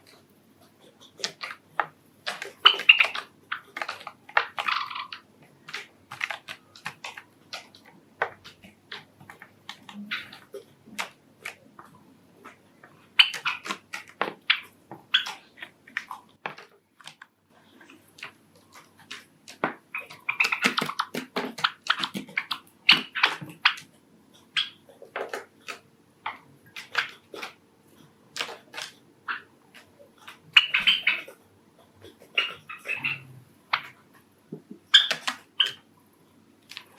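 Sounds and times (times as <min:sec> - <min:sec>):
sparrows chirping and clicking: 0:00.8 - 0:31.4, 0:32.1 - 0:34.0, 0:34.8 - 0:35.9.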